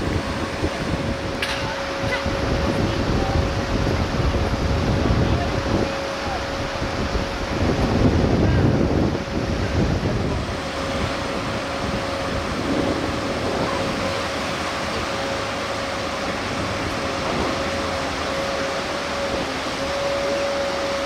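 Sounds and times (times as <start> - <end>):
boat engine whine: 0.0 - 21.0
loud wind: 0.0 - 21.0
waves breaking: 0.0 - 21.0.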